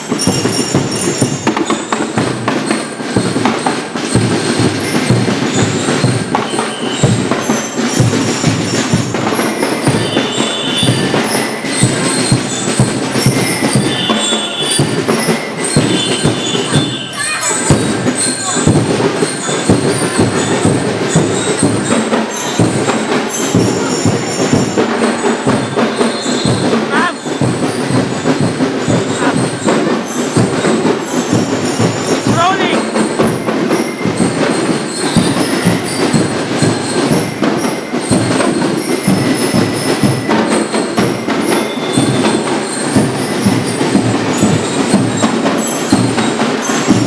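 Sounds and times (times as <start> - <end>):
bell lyres ringing: 0.0 - 47.0
marching drum beats: 0.0 - 47.0.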